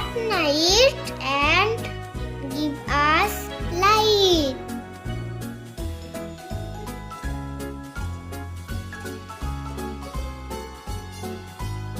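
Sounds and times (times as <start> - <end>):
jingly instrumental music: 0.0 - 11.9.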